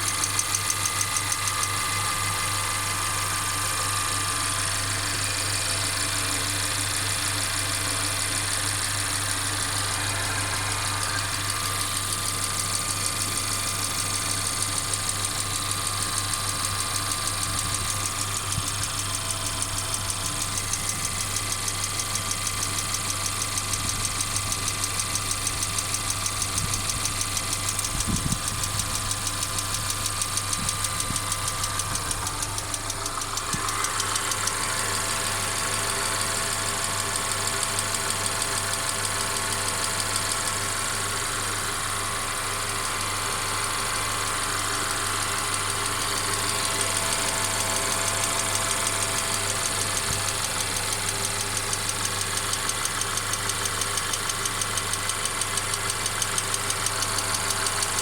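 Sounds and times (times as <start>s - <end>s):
car engine running with rattle: 0.0s - 58.0s.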